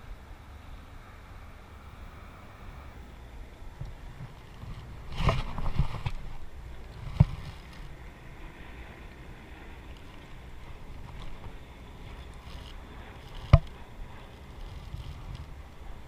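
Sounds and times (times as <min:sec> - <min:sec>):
wind rumbling on microphone: 0:00.7 - 0:16.0.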